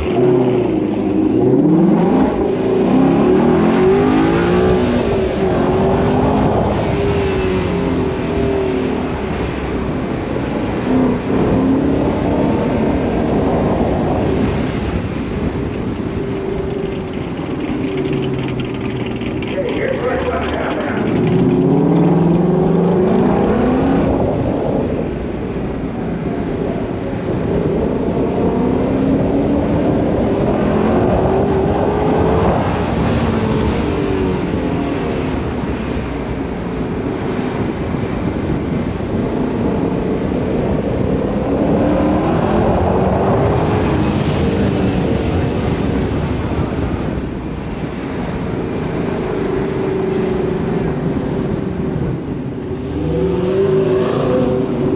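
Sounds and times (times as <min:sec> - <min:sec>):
cars driving past: 0:00.0 - 0:54.9.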